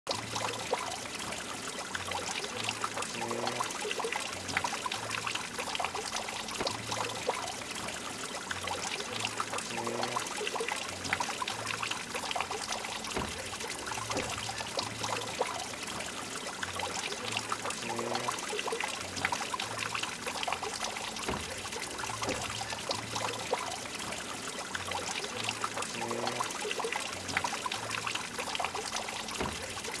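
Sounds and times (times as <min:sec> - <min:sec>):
water trickling off stone: 0:00.1 - 0:30.0.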